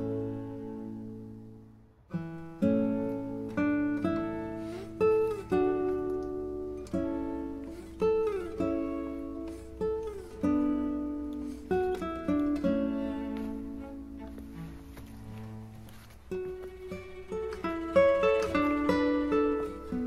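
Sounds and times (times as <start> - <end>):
acoustic guitar picking: 0.0 - 20.0.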